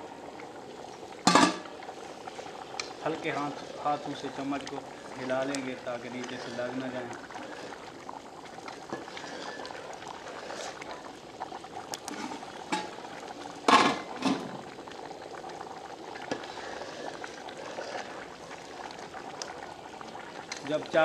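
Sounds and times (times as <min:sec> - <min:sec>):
water boiling in a pot: 0:00.0 - 0:21.0.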